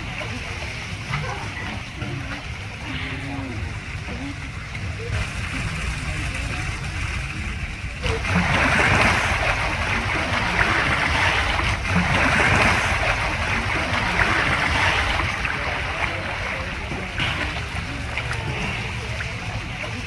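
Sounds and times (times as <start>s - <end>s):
water rushing and splashing: 0.0s - 20.0s
low rumble: 1.8s - 20.0s.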